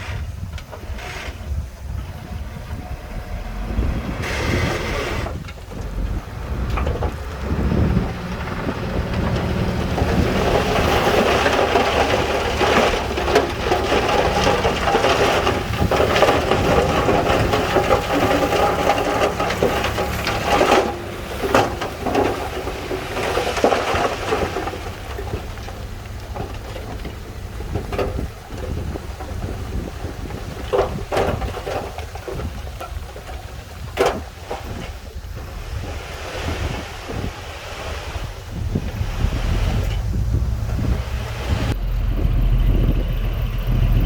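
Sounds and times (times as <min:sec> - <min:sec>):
diesel engine running: 0:00.0 - 0:44.0
rocks pouring from dump truck: 0:00.0 - 0:44.0.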